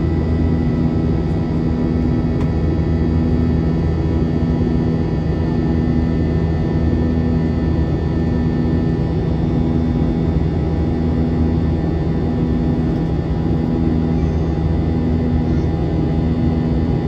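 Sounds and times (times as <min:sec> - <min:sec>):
jet engine drone in cabin: 0:00.0 - 0:17.0.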